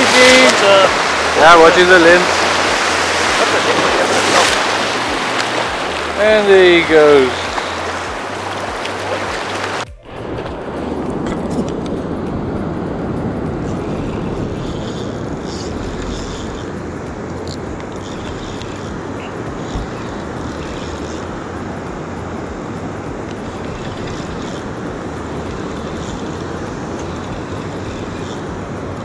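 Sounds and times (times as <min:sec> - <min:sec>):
ocean surf rushing: 0:00.0 - 0:29.0.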